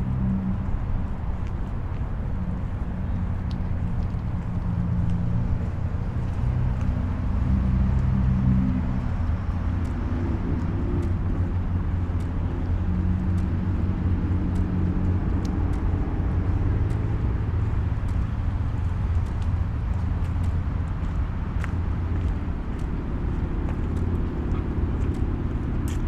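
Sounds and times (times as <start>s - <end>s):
low engine rumble: 0.0s - 26.0s
faint light ticks: 0.6s - 7.0s, 7.8s - 26.0s.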